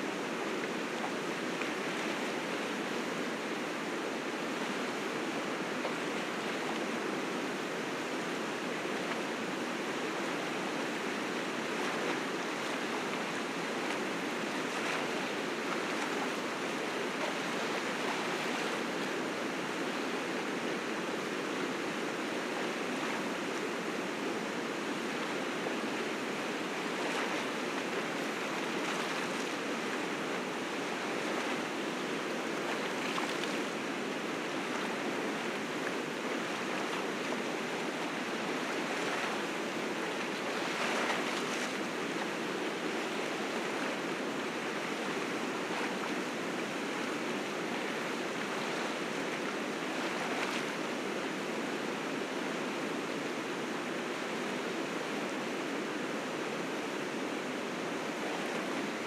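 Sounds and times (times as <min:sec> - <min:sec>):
faint water splashes: 0:00.0 - 0:55.4, 0:56.0 - 0:59.0
water rushing over rocks: 0:00.0 - 0:59.0.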